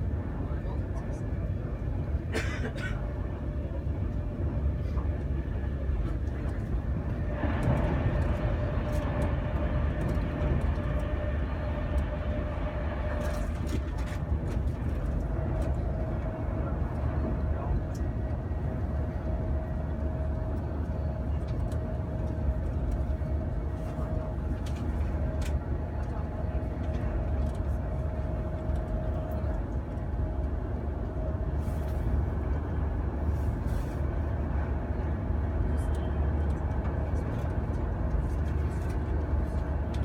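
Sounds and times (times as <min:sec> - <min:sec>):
train carriage rumble and hiss: 0:00.0 - 0:40.0.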